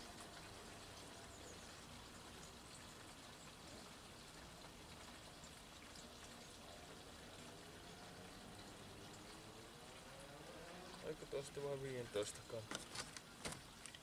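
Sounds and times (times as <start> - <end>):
coolant trickling into a can: 0.0 - 14.0.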